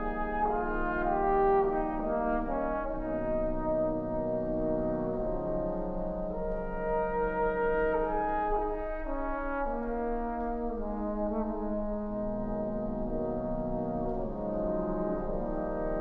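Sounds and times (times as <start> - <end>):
trombone choir playing chorale: 0.0 - 16.0.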